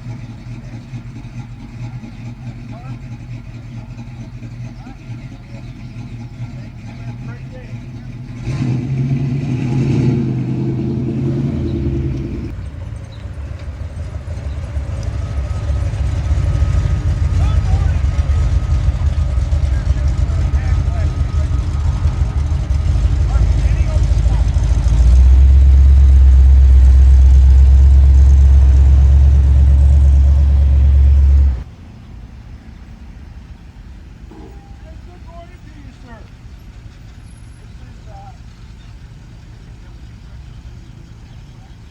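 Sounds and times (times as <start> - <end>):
car engine rumbling: 0.0 - 41.9.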